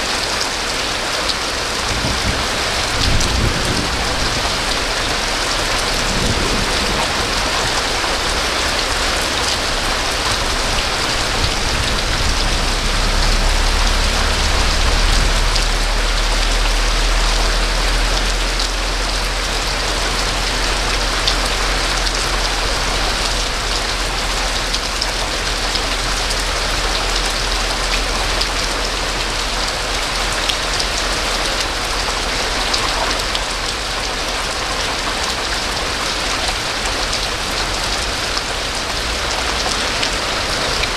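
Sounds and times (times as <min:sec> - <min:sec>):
rain falling: 0:00.0 - 0:40.9
low rumble: 0:00.6 - 0:34.6.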